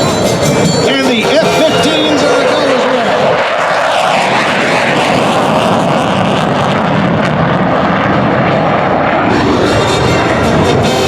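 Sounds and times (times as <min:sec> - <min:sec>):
jet engine noise: 0:00.0 - 0:11.0.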